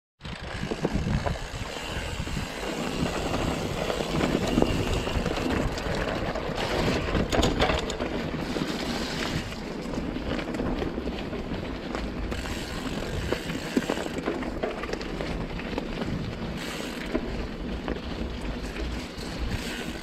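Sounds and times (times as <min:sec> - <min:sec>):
bike rattling over bumps: 0:00.2 - 0:20.0.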